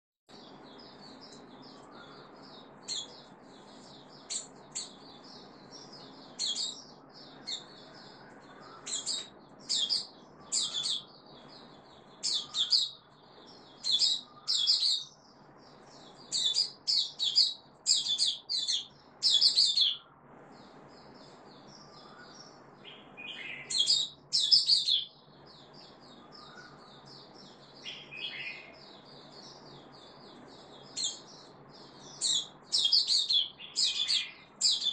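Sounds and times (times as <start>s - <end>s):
bird chirping and warbling: 0.3s - 34.9s
soft bird twittering: 0.3s - 34.9s.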